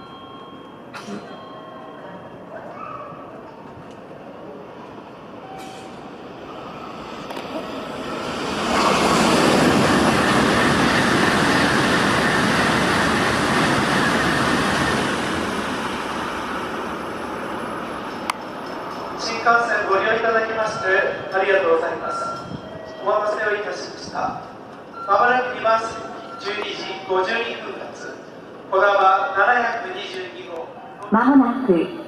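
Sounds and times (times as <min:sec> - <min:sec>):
high-speed train passing: 0:00.0 - 0:32.0.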